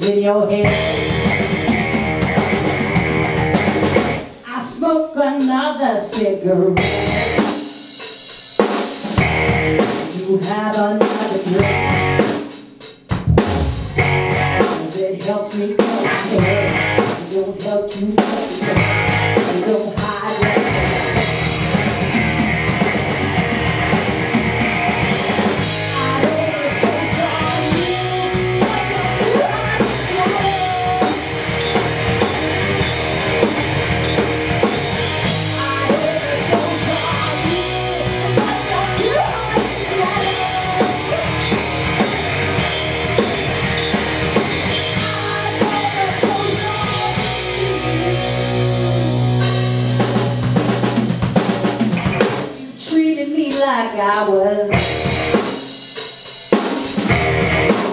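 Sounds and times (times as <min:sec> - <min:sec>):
bass guitar: 0:00.0 - 0:04.4, 0:06.7 - 0:07.5, 0:09.1 - 0:10.1, 0:11.5 - 0:12.4, 0:13.1 - 0:14.8, 0:15.9 - 0:17.8, 0:18.4 - 0:52.7, 0:54.6 - 0:55.6, 0:56.9 - 0:57.9
electric guitar: 0:00.0 - 0:04.4, 0:06.8 - 0:07.6, 0:09.0 - 0:10.2, 0:11.4 - 0:12.4, 0:13.1 - 0:52.9, 0:54.1 - 0:55.7, 0:56.6 - 0:57.9
drum kit: 0:00.0 - 0:04.8, 0:05.4 - 0:57.9.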